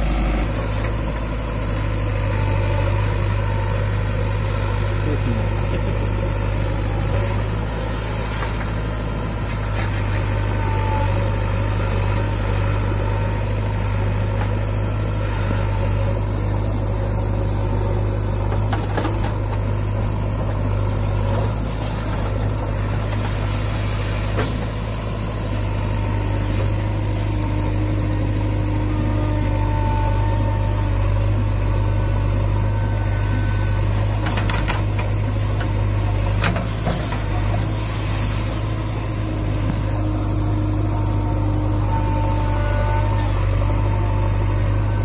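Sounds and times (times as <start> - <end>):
backhoe diesel engine drone: 0.0 - 45.0.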